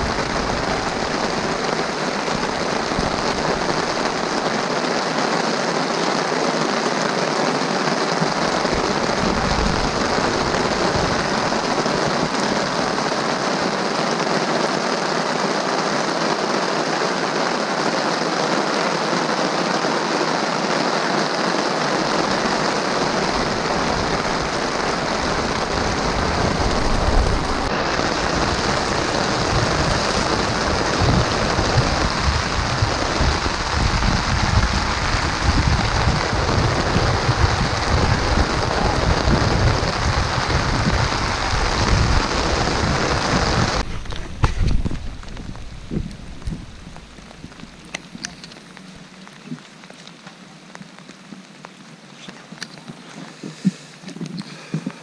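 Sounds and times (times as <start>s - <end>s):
heavy rain on river water: 0.0s - 55.0s.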